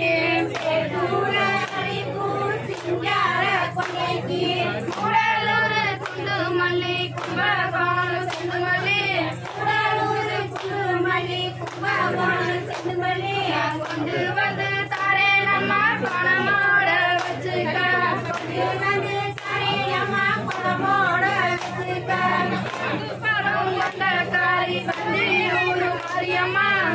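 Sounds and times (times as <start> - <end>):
hand claps: 0.0 - 26.9
women singing folk song: 0.0 - 26.9.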